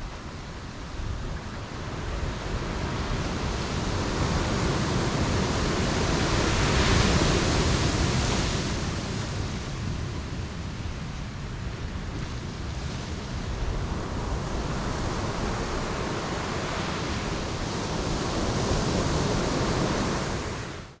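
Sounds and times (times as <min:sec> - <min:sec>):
ocean waves on beach: 0:00.0 - 0:21.0.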